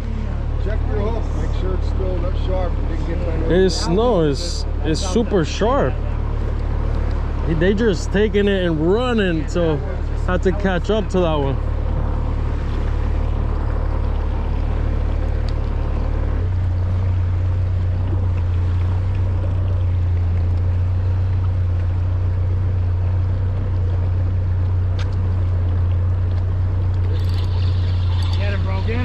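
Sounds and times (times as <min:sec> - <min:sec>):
boat motor humming: 0:00.0 - 0:29.0
water noise: 0:00.0 - 0:29.0.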